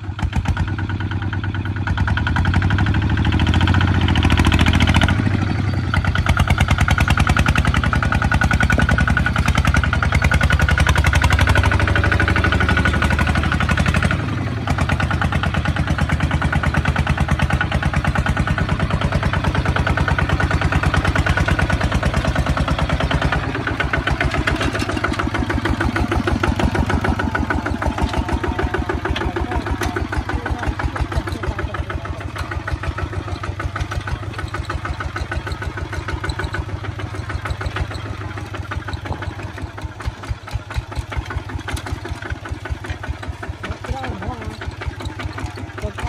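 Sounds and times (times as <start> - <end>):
diesel engine chugging: 0.0 - 46.0.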